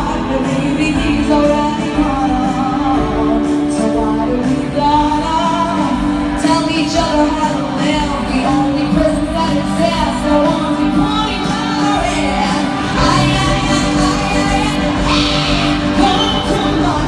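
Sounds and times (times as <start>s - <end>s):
band playing through pa: 0.0s - 17.0s
woman singing live: 0.0s - 17.0s.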